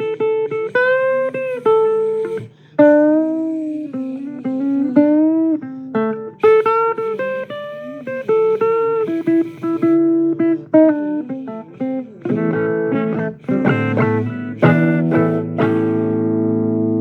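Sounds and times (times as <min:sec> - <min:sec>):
blues guitar playing: 0:00.0 - 0:17.0.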